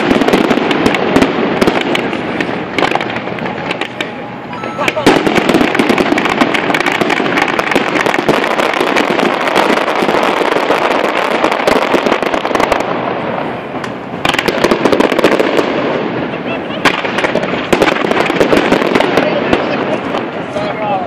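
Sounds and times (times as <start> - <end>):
firework bangs: 0.0 - 21.0
fireworks popping and crackling: 0.0 - 21.0.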